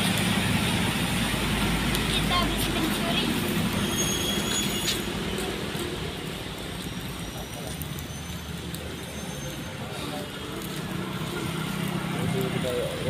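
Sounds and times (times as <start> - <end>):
rain falling on pavement: 0.0 - 13.0.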